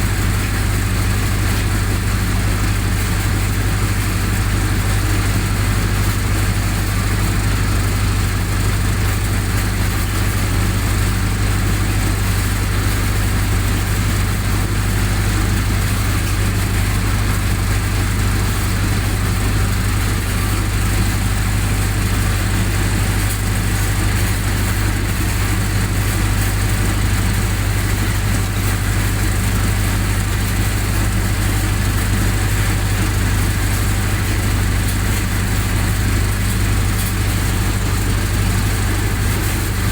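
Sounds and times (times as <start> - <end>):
generator engine humming: 0.0 - 39.9.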